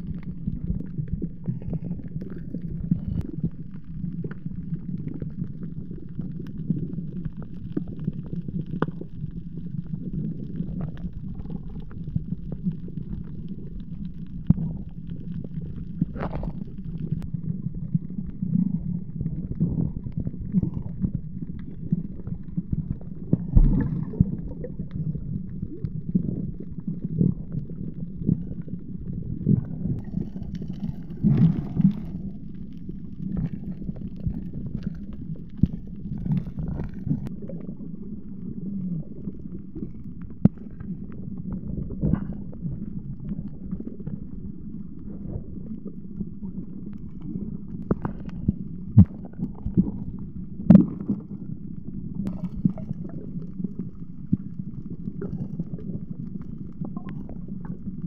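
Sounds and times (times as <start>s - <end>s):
low underwater rumble: 0.0s - 58.0s.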